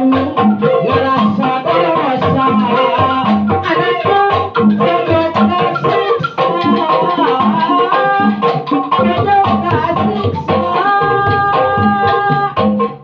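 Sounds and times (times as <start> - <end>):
man singing into microphone: 0.0 - 12.9
hand drum: 0.0 - 13.0.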